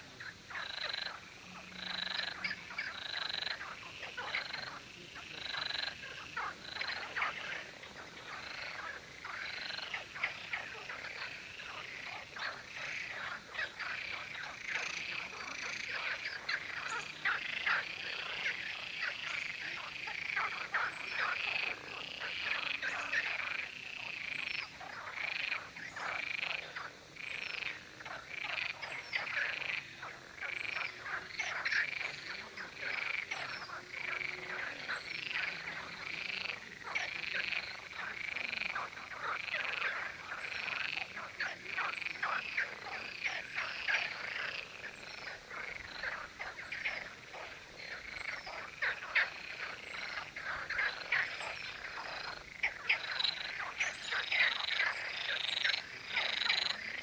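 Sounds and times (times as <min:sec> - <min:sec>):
chorus of frogs croaking: 0:00.0 - 0:57.0.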